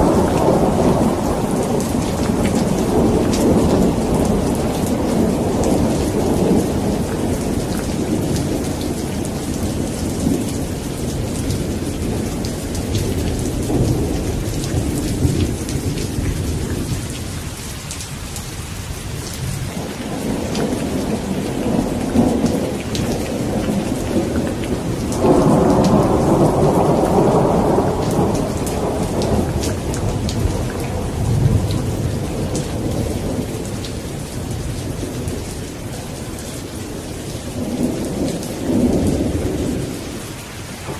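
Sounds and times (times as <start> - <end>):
thunder rumbling: 0.0 - 17.6, 19.1 - 40.9
heavy rain: 0.0 - 40.9.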